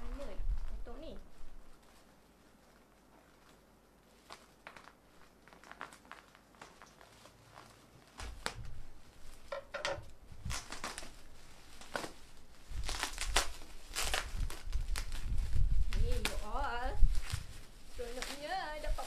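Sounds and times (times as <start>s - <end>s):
bubble wrap crinkling: 0.0s - 19.0s.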